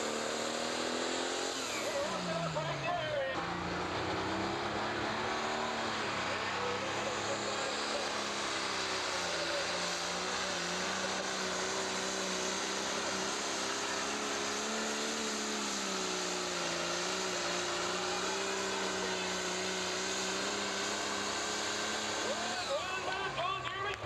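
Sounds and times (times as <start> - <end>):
diesel engine under load: 0.0 - 24.0.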